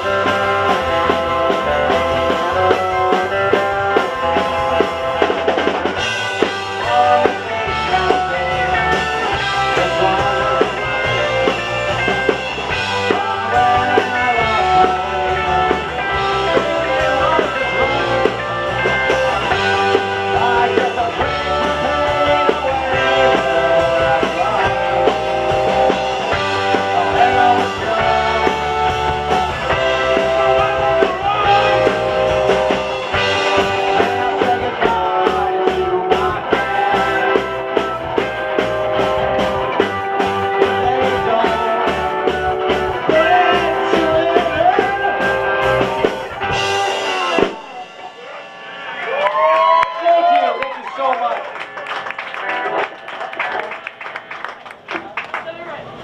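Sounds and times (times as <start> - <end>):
sustained guitar chords: 0.0 - 49.2
rock band playing: 0.0 - 54.8.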